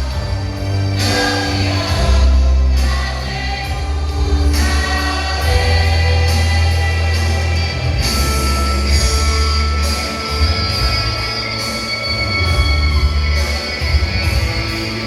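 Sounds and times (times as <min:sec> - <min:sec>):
choir singing gospel: 0:00.0 - 0:15.0
live band with strong bass: 0:00.0 - 0:15.0.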